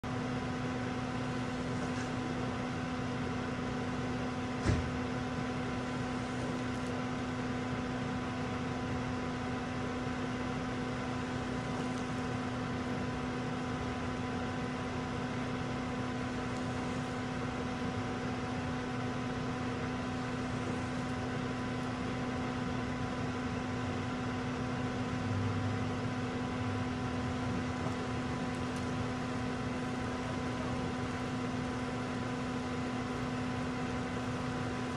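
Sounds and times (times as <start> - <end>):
car mechanical hum: 0.0 - 34.9.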